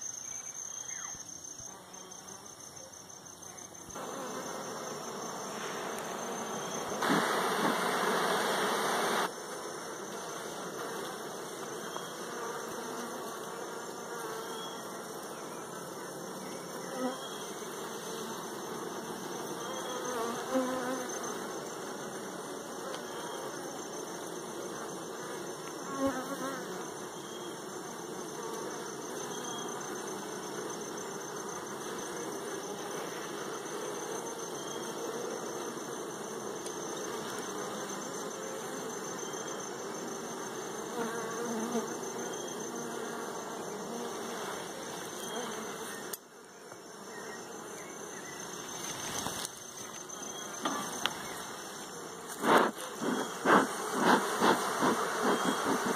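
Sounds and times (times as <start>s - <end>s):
honeybees buzzing: 3.9s - 55.9s.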